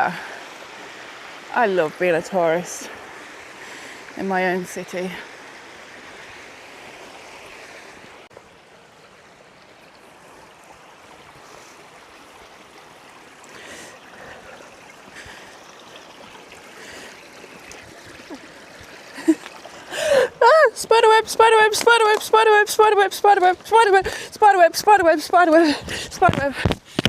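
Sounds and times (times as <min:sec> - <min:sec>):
river water rushing over rapids: 0:00.0 - 0:26.2.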